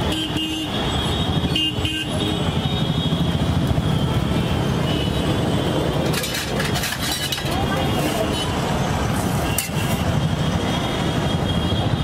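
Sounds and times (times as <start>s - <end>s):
roadside traffic rumble: 0.0s - 12.0s.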